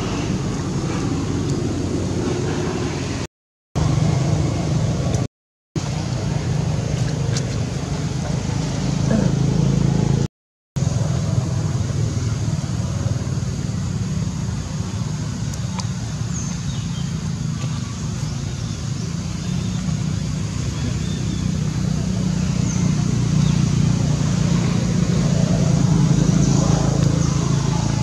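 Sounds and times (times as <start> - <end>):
outdoor rumble and hiss: 0.0 - 28.0.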